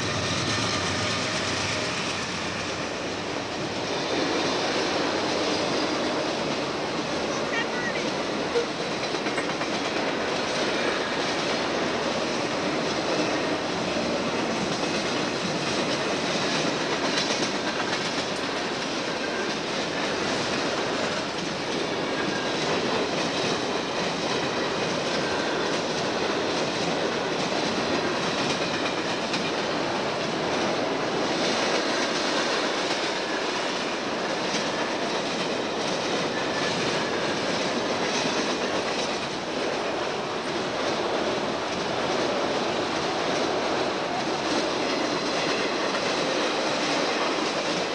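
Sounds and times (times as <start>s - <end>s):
steel train wheels on rails: 0.0s - 47.9s.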